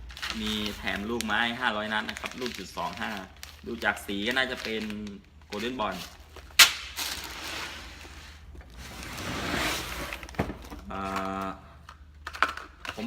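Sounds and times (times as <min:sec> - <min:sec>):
rustling handling noise: 0:00.0 - 0:13.0.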